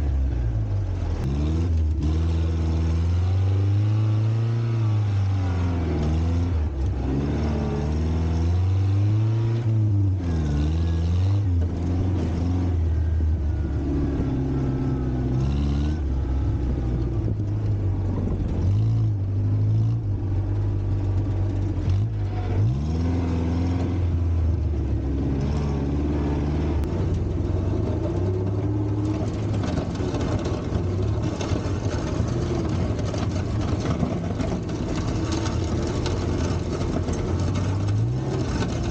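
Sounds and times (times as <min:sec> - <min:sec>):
tractor engine revving: 0:00.0 - 0:38.9.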